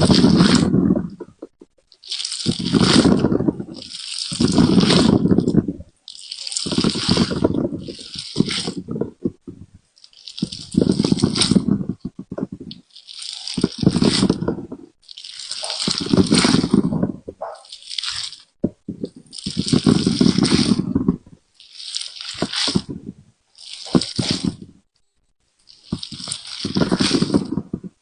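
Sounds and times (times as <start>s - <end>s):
jelly squelching: 0.0s - 28.0s.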